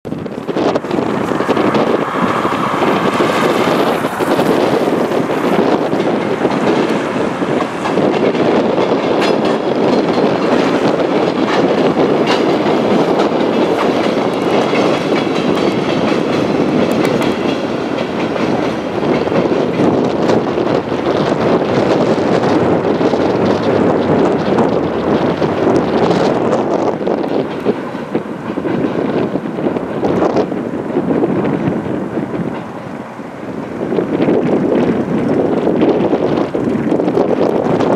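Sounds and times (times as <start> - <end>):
train rolling over bridge: 0.1 - 37.9.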